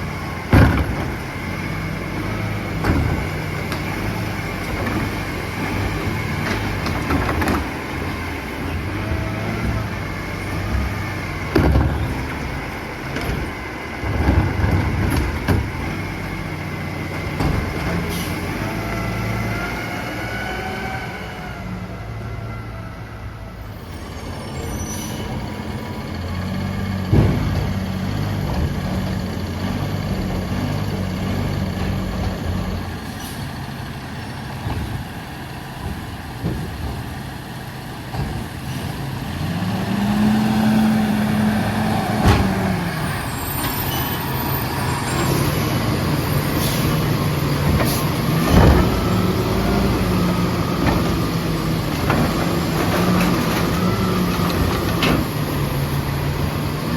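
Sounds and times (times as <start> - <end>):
garbage truck diesel engine humming: 0.0 - 56.9.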